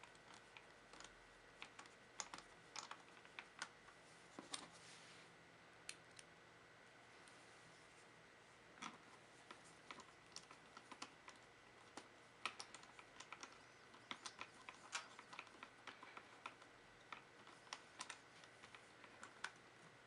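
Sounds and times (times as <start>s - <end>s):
faint high-pitched hum: 0.0s - 20.0s.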